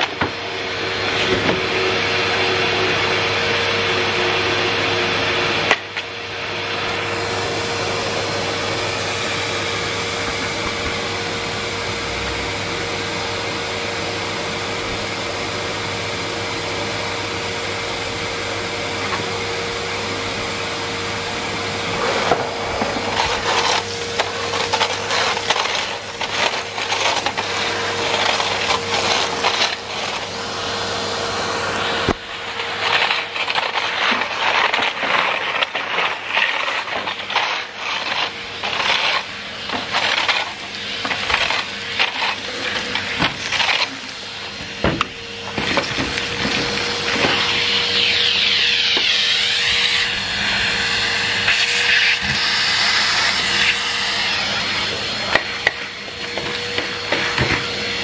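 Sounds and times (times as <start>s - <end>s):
grit rattling up vacuum hose: 0.0s - 2.9s, 5.2s - 13.0s, 21.5s - 58.0s
vacuum cleaner humming: 0.0s - 58.0s.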